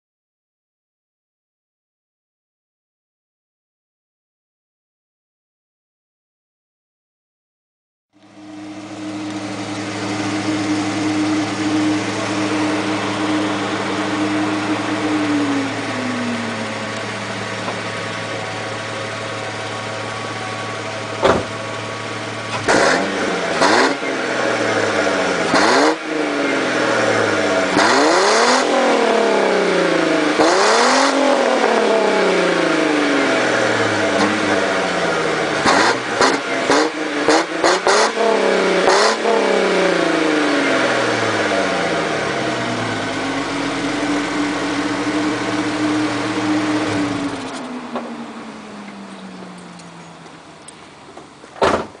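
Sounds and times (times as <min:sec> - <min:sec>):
car exhaust idling and revving: 0:08.1 - 0:52.0.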